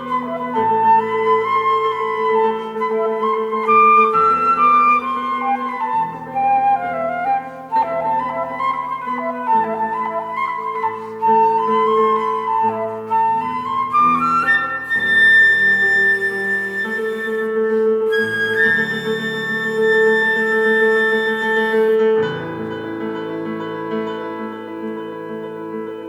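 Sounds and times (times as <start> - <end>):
two flutes playing a duet: 0.0 - 22.2.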